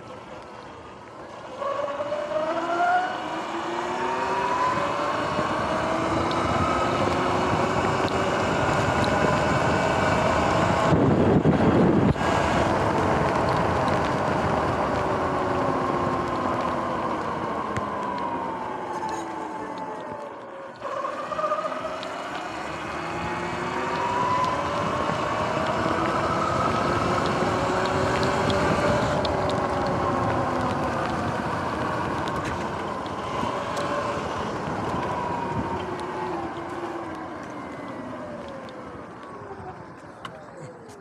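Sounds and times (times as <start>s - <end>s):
wind and road noise: 0.0s - 41.0s
electric motor whining: 2.0s - 39.9s.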